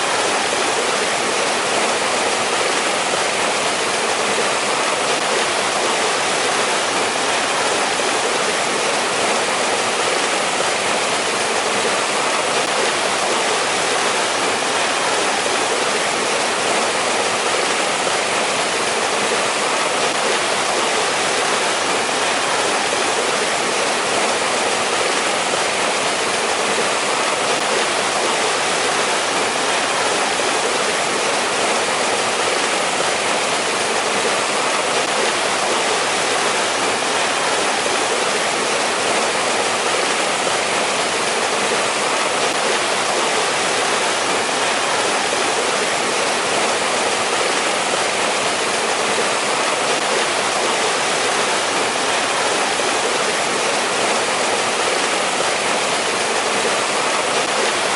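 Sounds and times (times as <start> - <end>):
stream water rushing and splashing: 0.0 - 57.9.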